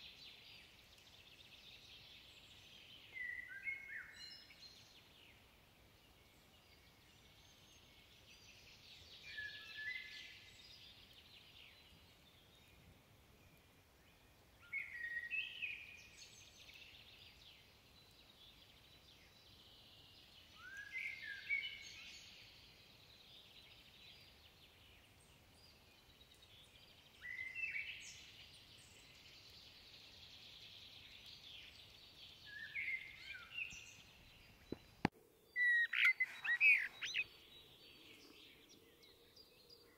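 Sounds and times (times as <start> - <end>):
blackbird singing: 1.2 - 5.3, 6.2 - 12.7, 14.2 - 17.6, 18.4 - 22.6, 23.2 - 39.9.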